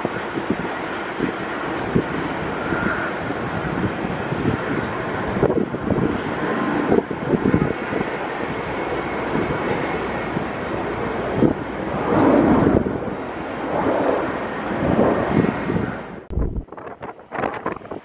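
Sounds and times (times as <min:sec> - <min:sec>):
distant jet engine rumble: 0:00.0 - 0:18.0
wind buffeting microphone: 0:00.0 - 0:18.0.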